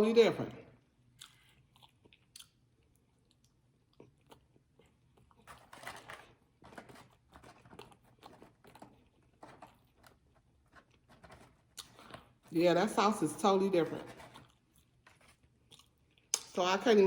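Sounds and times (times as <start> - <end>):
chewing and mouth sounds: 1.0 - 12.6, 14.0 - 16.6.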